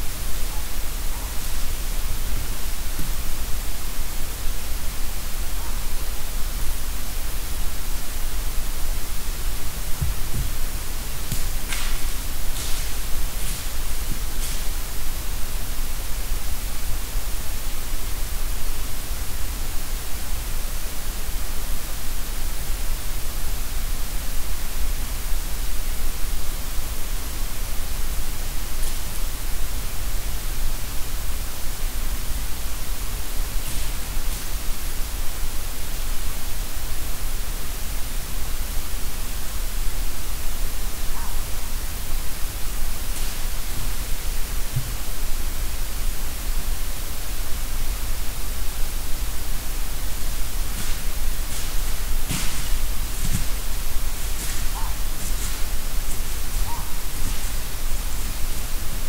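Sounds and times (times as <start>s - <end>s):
recorder hiss: 0.0s - 59.0s.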